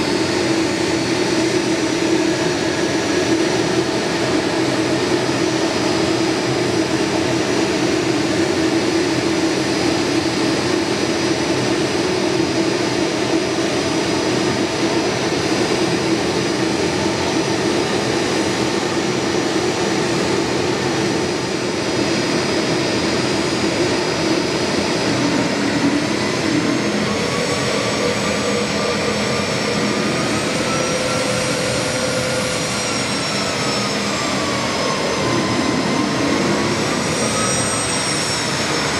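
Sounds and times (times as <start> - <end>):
jet engines idling with high whine: 0.0 - 38.9.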